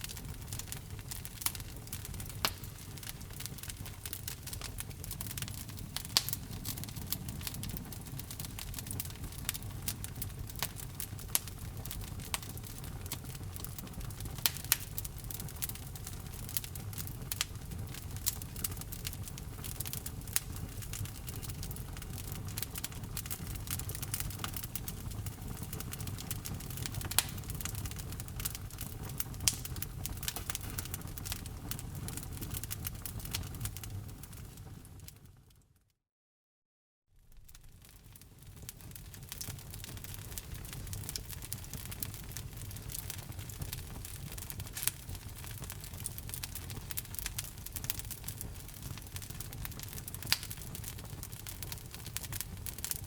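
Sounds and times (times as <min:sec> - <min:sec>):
fire popping and snapping: 0:00.0 - 0:35.4, 0:37.2 - 0:53.0
wood fire burning: 0:00.0 - 0:35.6, 0:37.2 - 0:53.0.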